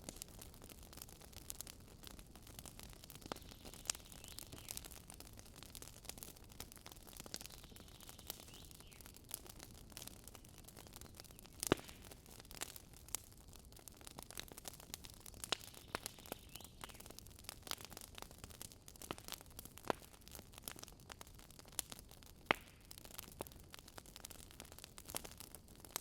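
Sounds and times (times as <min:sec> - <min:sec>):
wood campfire crackling: 0:00.0 - 0:26.0.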